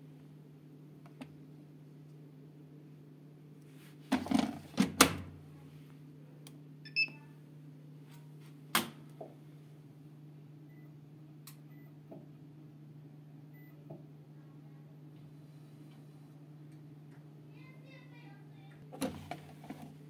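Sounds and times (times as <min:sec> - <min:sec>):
washing machine low hum: 0:00.0 - 0:20.0.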